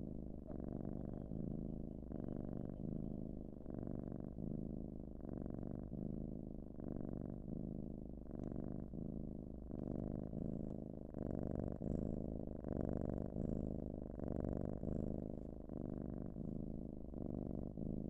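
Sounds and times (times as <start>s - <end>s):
cat-like purring: 0.0s - 18.0s.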